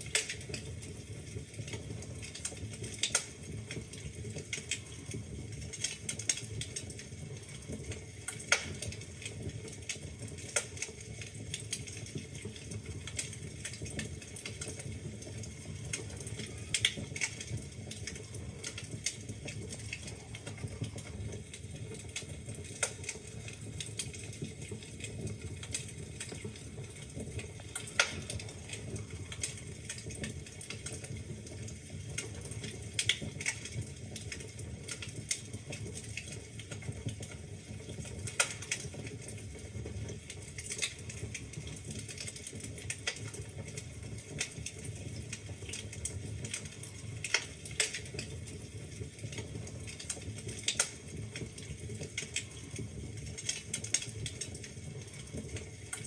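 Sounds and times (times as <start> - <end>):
fire popping: 0.0 - 56.0
flames rushing: 0.0 - 56.0
wood fire crackling: 0.0 - 56.0.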